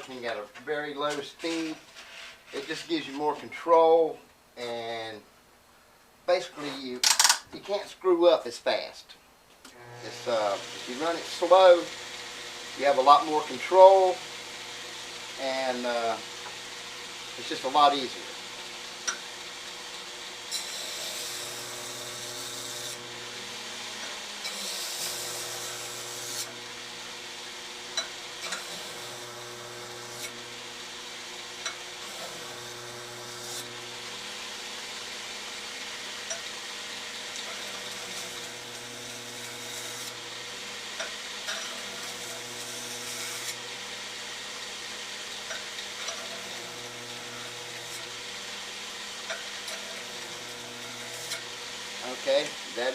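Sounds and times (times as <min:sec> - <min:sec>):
grinder motor humming: 0:09.7 - 0:52.9
blade grinding on belt: 0:09.8 - 0:52.9.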